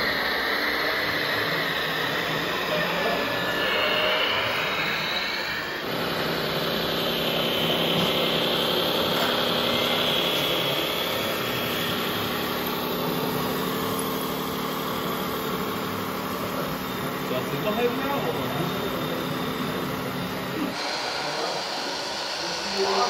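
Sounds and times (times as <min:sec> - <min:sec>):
hissing whine: 0:00.0 - 0:23.0
model truck engine drone: 0:00.0 - 0:23.0.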